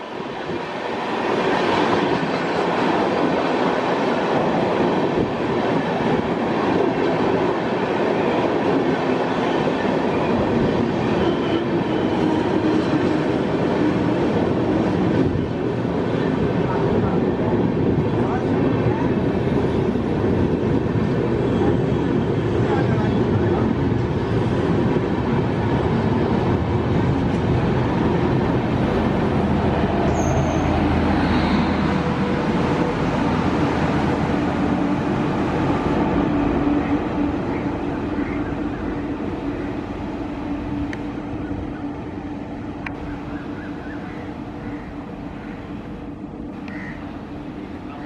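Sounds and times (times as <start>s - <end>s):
train rumbling past: 0.0s - 48.0s.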